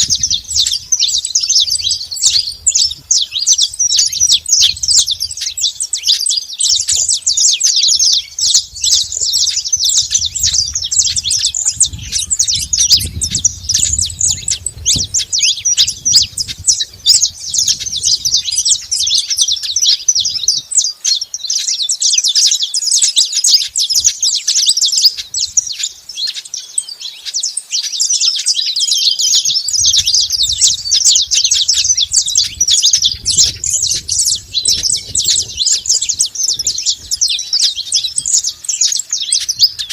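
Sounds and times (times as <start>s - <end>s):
finches chirping rapidly: 0.0s - 39.9s.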